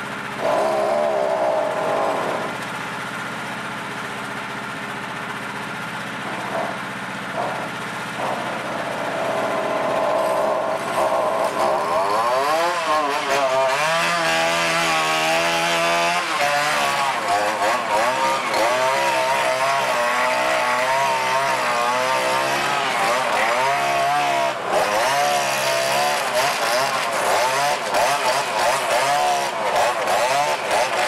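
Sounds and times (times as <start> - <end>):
small gasoline engine revving: 0.0 - 31.0.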